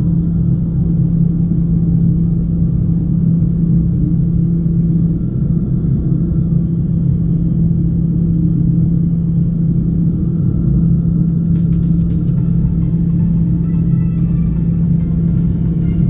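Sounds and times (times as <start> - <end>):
turboprop engine drone in cabin: 0.0 - 16.0.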